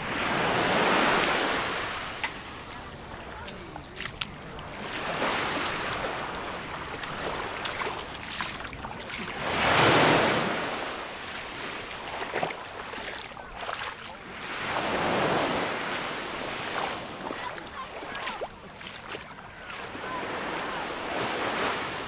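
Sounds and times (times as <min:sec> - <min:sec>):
waves washing up pebbly shore: 0:00.0 - 0:22.0.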